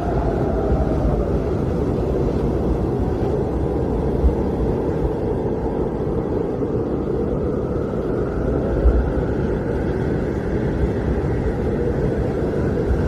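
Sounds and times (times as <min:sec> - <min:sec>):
blizzard wind rumbling: 0:00.0 - 0:13.0.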